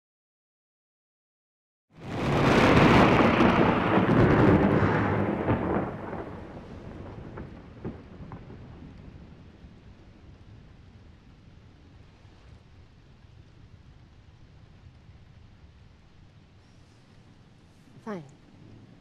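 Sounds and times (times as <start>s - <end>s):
rain: 1.9s - 19.0s
thunderclap rumbling: 2.0s - 19.0s.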